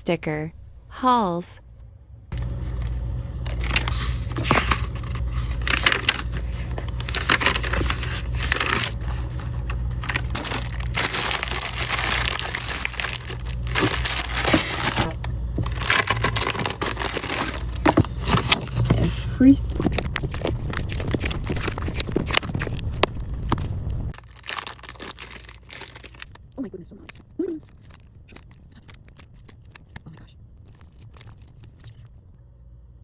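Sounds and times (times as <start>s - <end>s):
packaging crinkling and tearing: 2.4s - 32.1s.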